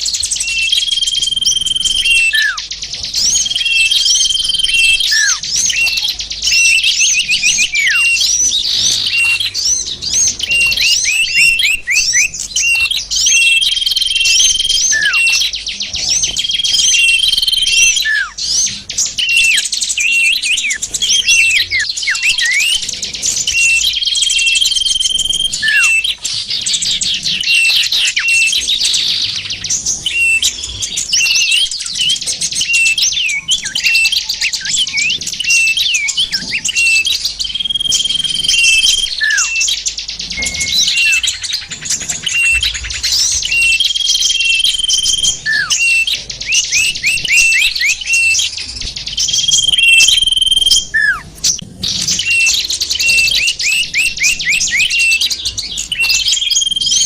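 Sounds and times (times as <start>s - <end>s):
bird whistles: 0.0s - 57.0s
songbirds chirping: 0.0s - 57.0s.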